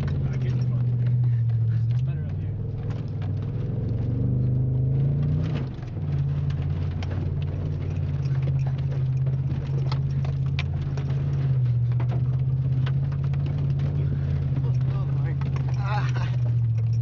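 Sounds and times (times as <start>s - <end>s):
mud and water pattering on windshield: 0.0s - 17.0s
truck engine pulling under throttle: 0.0s - 17.0s.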